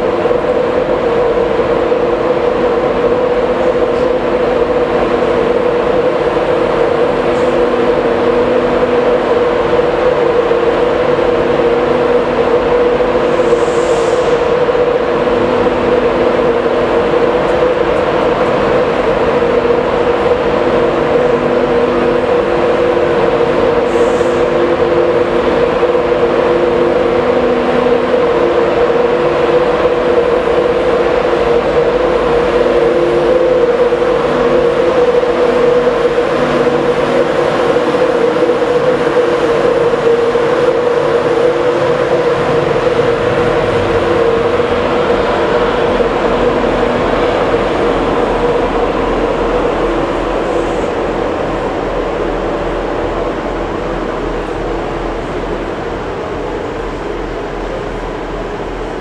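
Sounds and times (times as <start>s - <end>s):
electric locomotive humming: 0.0s - 59.0s.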